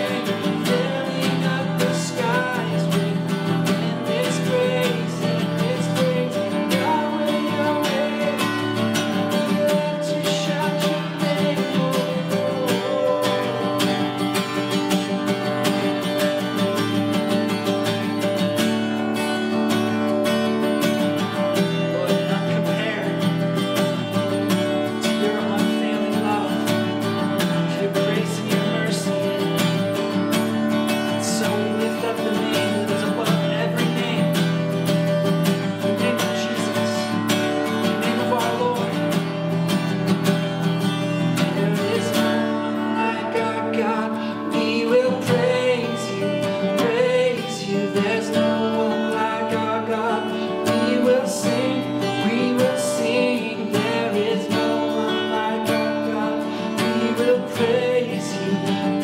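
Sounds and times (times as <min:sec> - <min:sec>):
man singing: 0:00.0 - 0:16.9, 0:21.1 - 0:39.7, 0:40.7 - 0:59.0
acoustic guitar strumming: 0:00.0 - 0:59.0.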